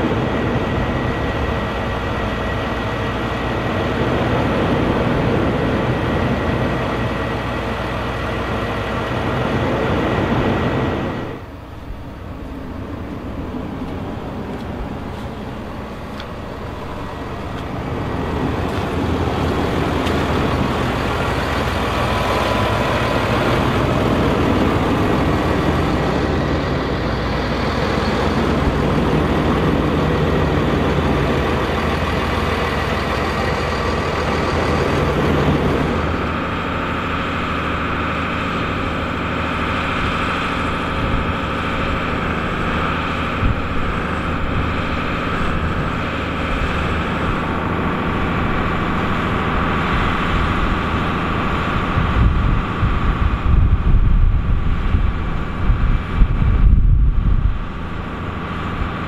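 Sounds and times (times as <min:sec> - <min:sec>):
tractor engines under load: 0:00.0 - 0:59.0.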